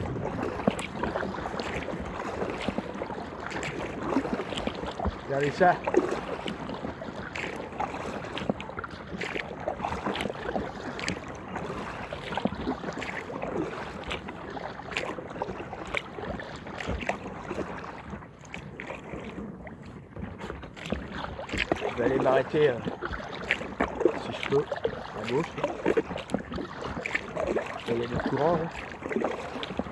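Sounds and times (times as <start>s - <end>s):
moving water wash: 0.0s - 29.9s
paddle splashing: 0.0s - 29.9s.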